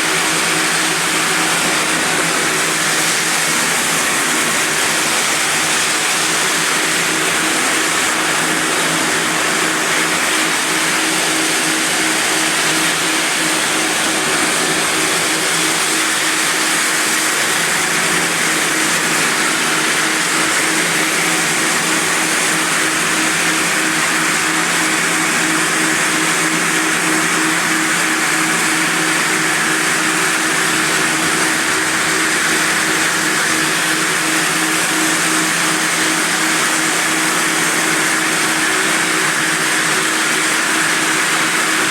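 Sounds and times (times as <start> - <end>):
floor sanding machine grinding: 0.0 - 41.9
motor hum: 0.0 - 41.9.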